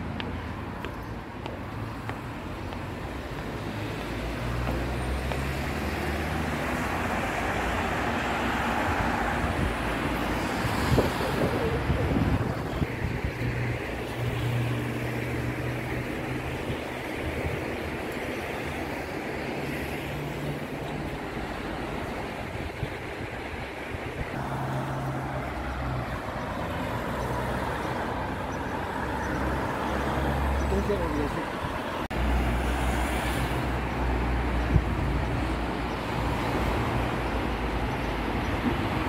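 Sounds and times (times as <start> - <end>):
road traffic driving past: 0.0 - 39.0.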